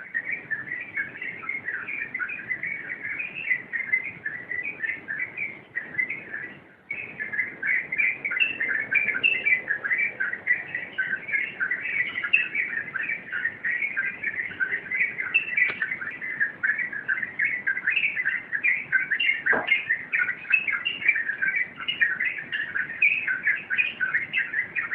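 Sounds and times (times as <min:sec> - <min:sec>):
bird singing bubbling notes: 0:00.0 - 0:24.9.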